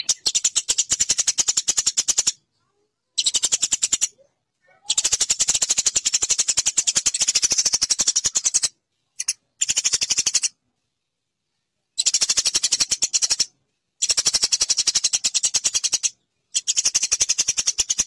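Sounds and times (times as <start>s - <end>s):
sparrow chattering chirps: 0.0s - 10.6s, 12.0s - 18.0s.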